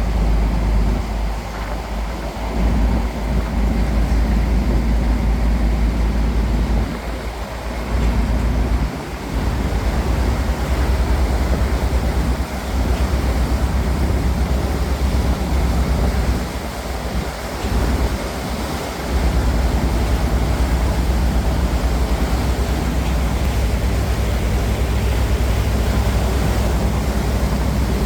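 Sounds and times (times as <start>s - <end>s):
boat engine rumble: 0.0s - 28.0s
wind buffeting microphone: 0.0s - 28.0s.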